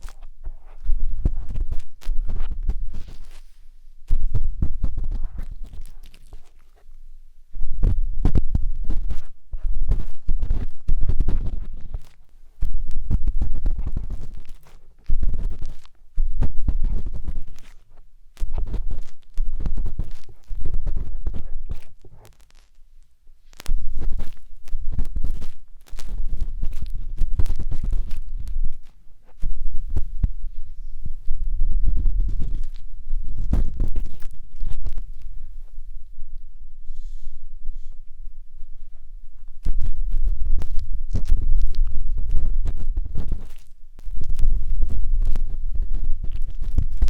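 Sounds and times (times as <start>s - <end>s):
scratching on microphone: 0.0s - 47.0s.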